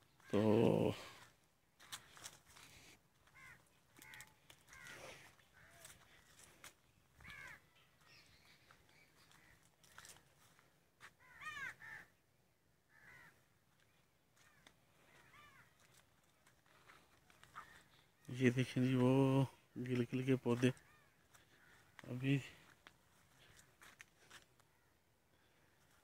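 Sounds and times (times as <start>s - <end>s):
faint crows cawing: 0.0s - 26.0s.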